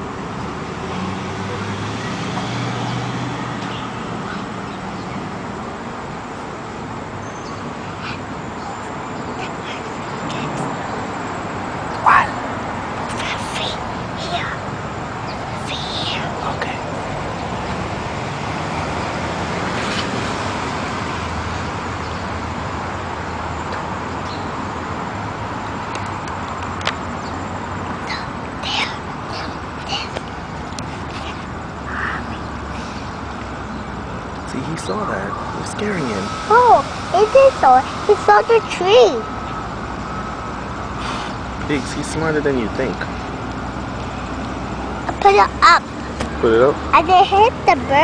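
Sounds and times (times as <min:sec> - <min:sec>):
road traffic noise: 0:00.0 - 0:48.0
vehicle engine hum: 0:00.0 - 0:48.0.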